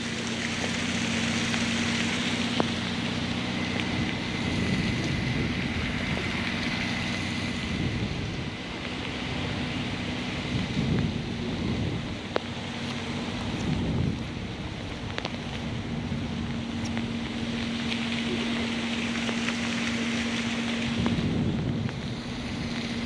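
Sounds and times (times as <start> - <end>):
car engine running: 0.0 - 23.0
rushing noise: 0.0 - 23.0.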